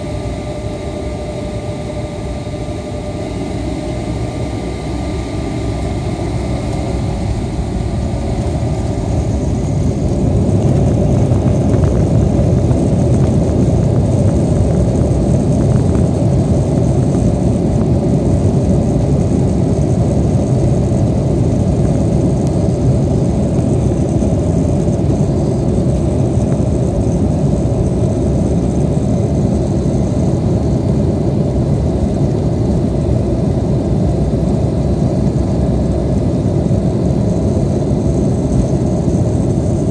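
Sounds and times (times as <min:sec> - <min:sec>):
airliner engines rumbling in cabin: 0:00.0 - 0:39.9.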